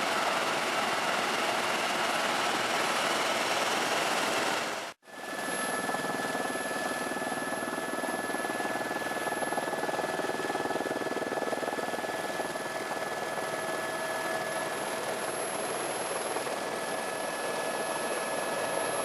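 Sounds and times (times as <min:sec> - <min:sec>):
helicopter running: 0:00.0 - 0:19.0.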